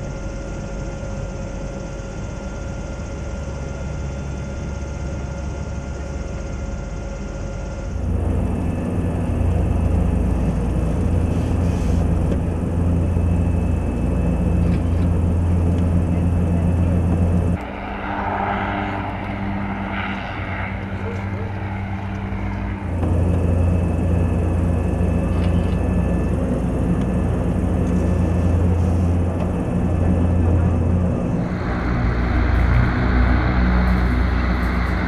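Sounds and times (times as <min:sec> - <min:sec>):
airship engines and propellers droning: 0:00.0 - 0:35.0.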